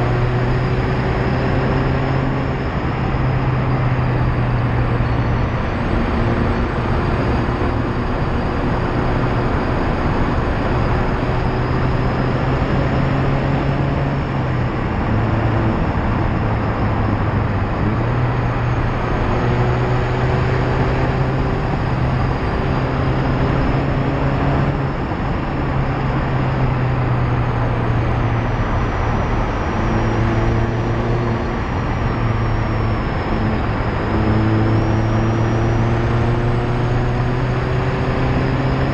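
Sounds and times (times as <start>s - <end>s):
car engine revving: 0.0s - 38.9s
tyre and road noise: 0.0s - 38.9s.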